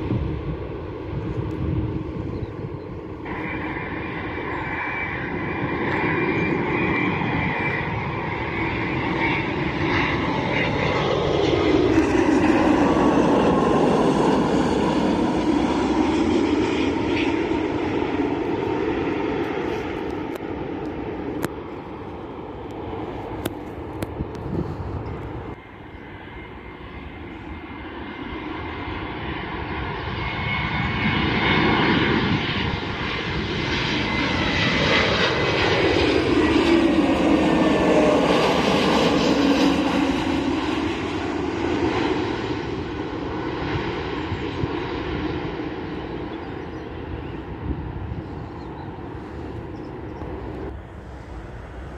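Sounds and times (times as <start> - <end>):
high engine whine: 0.0 - 51.9
jet engines passing overhead: 0.0 - 51.9.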